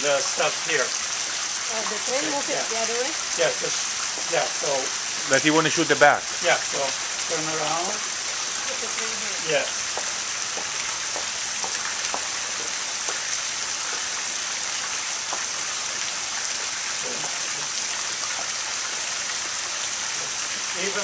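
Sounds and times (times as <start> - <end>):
fountain jets splashing into water: 0.0 - 21.0.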